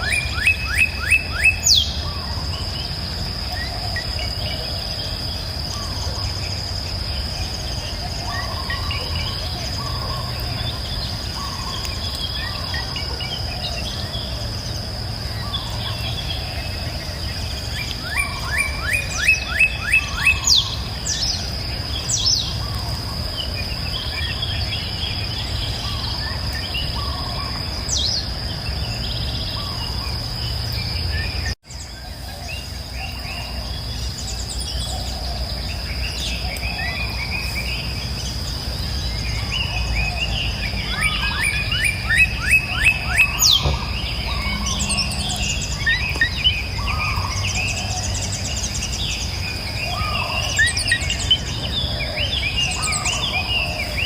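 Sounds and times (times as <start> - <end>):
birds singing and chirping: 0.0 - 54.0
high insect whine: 0.0 - 54.0.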